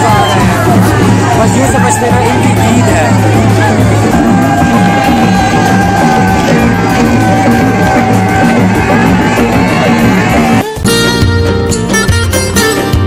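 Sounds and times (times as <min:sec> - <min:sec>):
festival crowd with music: 0:00.0 - 0:13.0
song with strummed strings: 0:00.6 - 0:13.0.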